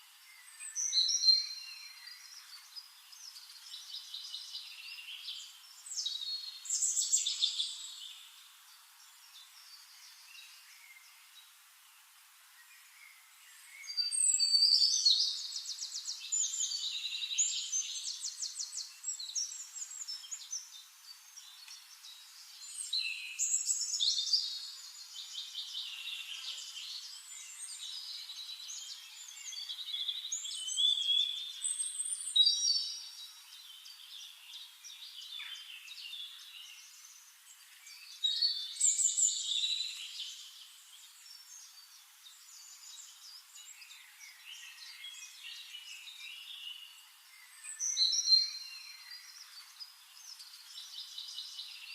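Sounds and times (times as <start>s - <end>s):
songbird singing trills and warbles: 0.0s - 51.9s
bird chirps: 0.3s - 11.3s, 12.6s - 51.9s.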